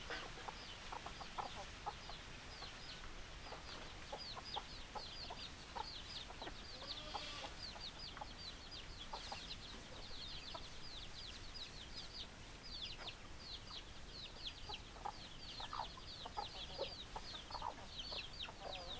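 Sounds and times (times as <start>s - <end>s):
chickens clucking: 0.0s - 11.7s, 12.8s - 18.9s
chickens peeping: 0.0s - 18.9s.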